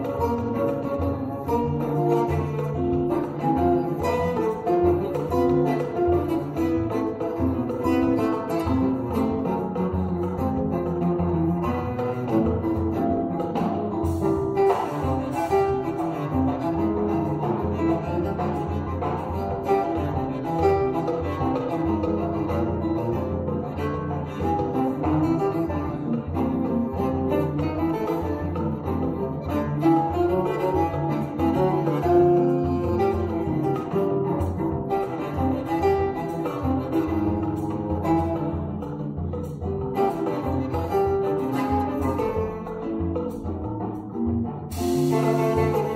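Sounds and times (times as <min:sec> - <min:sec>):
cello melody: 0:00.0 - 0:45.9
light drums: 0:00.0 - 0:45.9
plucked acoustic guitar: 0:00.0 - 0:45.9.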